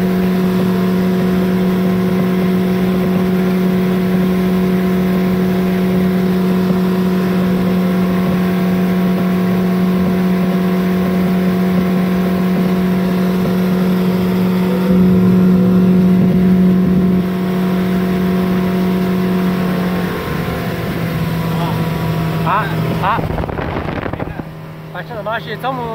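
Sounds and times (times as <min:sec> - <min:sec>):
outboard motor drone: 0:00.0 - 0:25.9.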